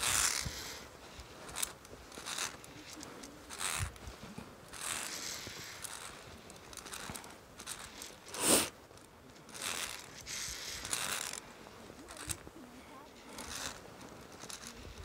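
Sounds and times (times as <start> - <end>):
rustling and scraping handling noise: 0.0 - 15.0.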